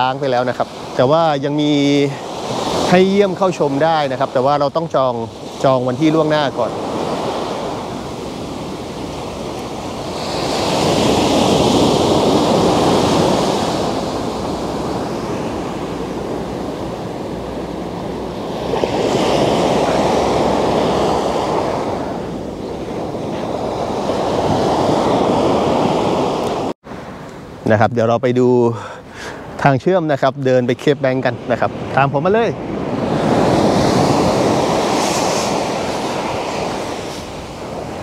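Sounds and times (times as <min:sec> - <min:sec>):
sea surf washing on shore: 0:00.0 - 0:38.0.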